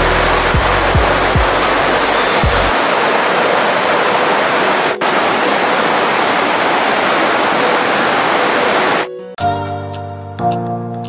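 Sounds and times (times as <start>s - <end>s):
rushing turbulent water: 0.0s - 9.1s.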